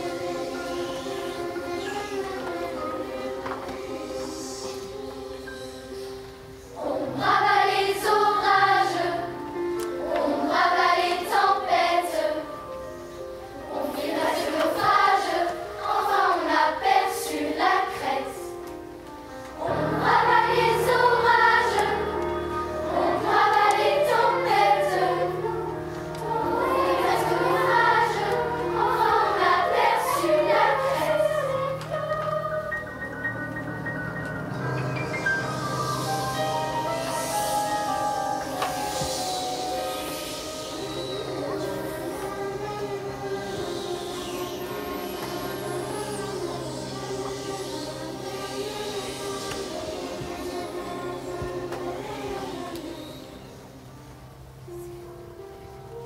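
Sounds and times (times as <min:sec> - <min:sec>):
children's choir singing: 0:00.0 - 0:54.9
low steady notes: 0:00.0 - 0:56.0
musical accompaniment: 0:00.0 - 0:56.0.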